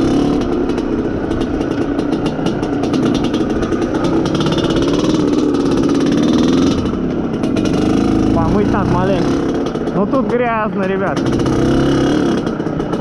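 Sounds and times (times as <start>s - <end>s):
two-stroke motorcycle engine running: 0.0s - 13.0s.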